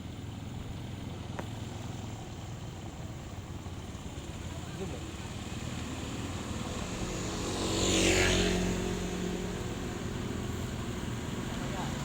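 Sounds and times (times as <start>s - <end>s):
atv engine passing by: 0.0s - 12.0s.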